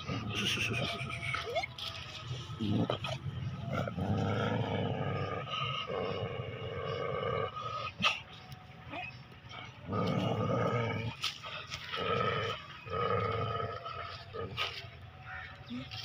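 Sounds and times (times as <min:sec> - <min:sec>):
dog growling: 0:00.0 - 0:08.3, 0:09.5 - 0:14.9.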